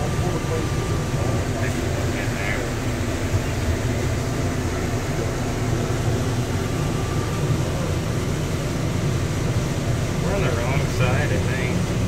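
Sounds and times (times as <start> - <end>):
train rumble and tyre hiss: 0.0 - 12.0.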